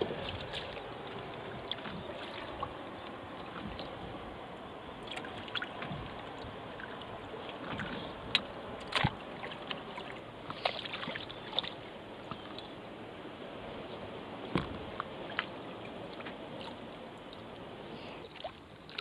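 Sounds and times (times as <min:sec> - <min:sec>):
paddle splashes and drips: 0:00.0 - 0:12.8, 0:14.5 - 0:19.0
water lapping against board: 0:00.0 - 0:12.8, 0:14.4 - 0:19.0.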